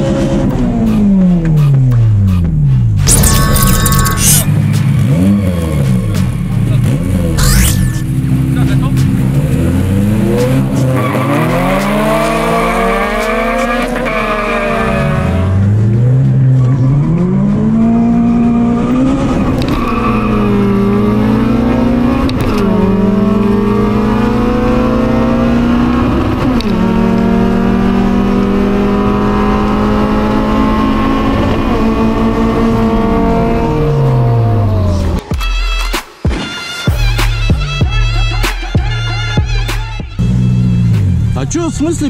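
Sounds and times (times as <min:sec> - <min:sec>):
car engine revving at full throttle: 0:00.0 - 0:35.2.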